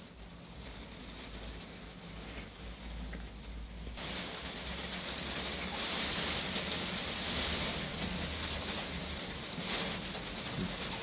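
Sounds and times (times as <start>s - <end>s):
heavy rain on a shed roof: 0.0s - 11.0s.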